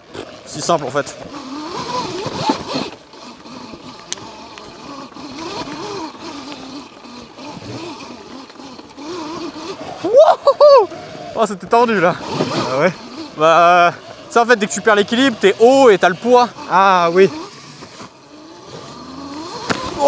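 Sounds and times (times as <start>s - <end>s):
electric motor whine: 0.0s - 10.2s, 10.8s - 20.0s
tyres on dirt and roots: 0.0s - 20.0s
rider whooping: 1.5s - 17.7s.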